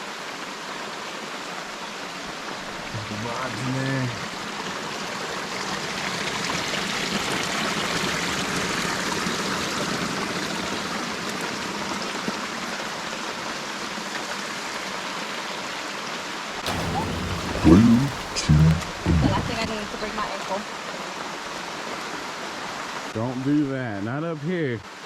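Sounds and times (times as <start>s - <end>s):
water rushing in a stream: 0.0s - 23.2s.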